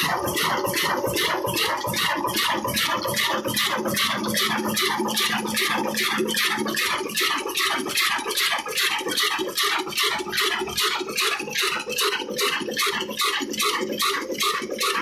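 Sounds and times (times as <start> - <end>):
diesel engine clattering: 0.0 - 15.0.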